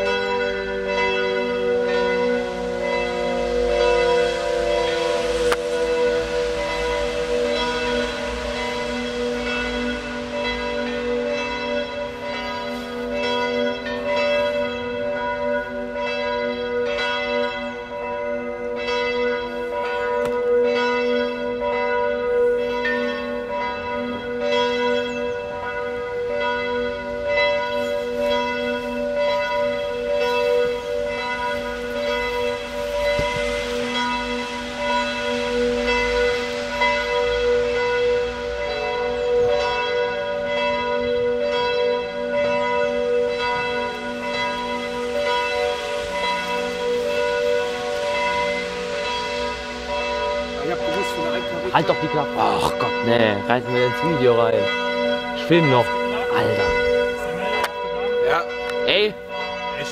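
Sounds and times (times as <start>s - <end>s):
church bells ringing: 0.0s - 59.9s.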